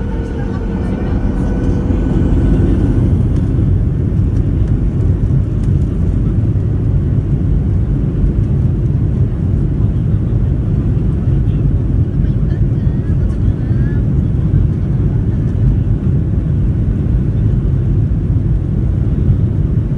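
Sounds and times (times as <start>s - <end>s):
airplane cabin engine rumble: 0.0s - 19.9s.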